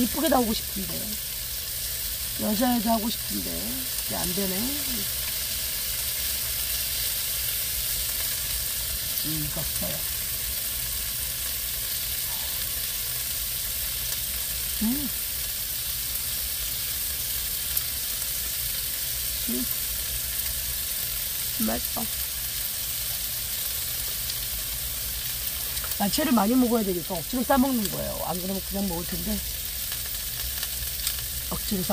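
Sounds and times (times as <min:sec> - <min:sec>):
meat sizzling in frying pan: 0:00.0 - 0:31.9.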